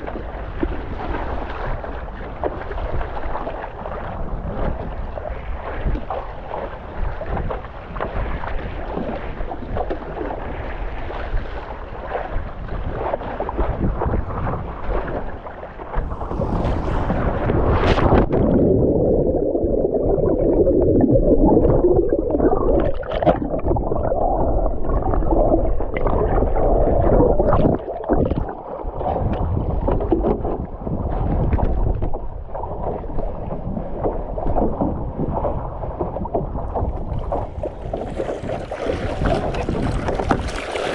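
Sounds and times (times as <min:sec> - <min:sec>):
water rushing around a paddleboard: 0:00.0 - 0:40.9.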